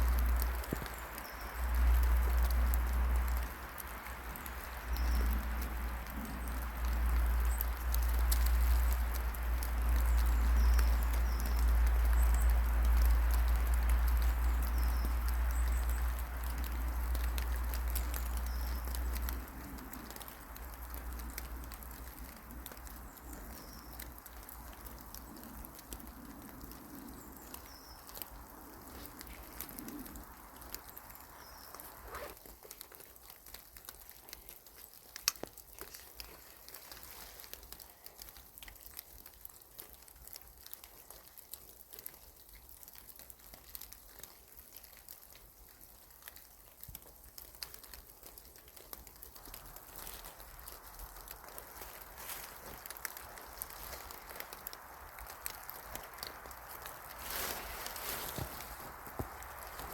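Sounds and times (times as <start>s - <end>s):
small ticks and crackles: 0.0s - 59.9s.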